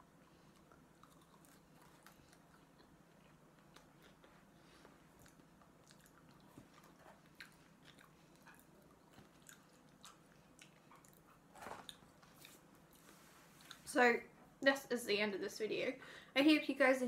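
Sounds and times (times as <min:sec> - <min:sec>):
person chewing food: 0:00.1 - 0:13.9.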